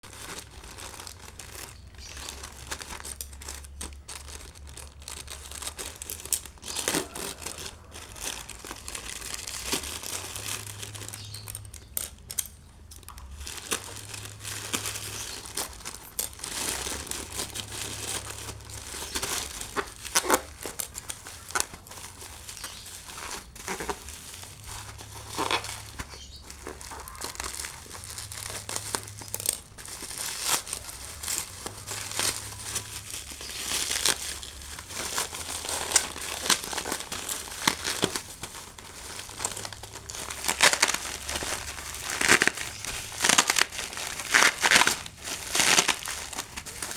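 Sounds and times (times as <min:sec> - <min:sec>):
packaging crinkling and tearing: 0:00.0 - 0:46.9.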